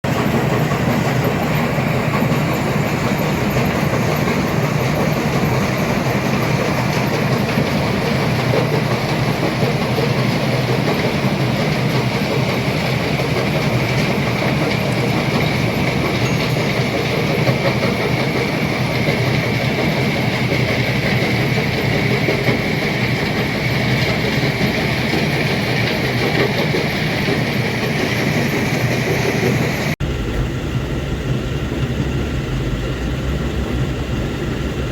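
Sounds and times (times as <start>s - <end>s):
diesel truck engine under load: 0.0s - 34.9s.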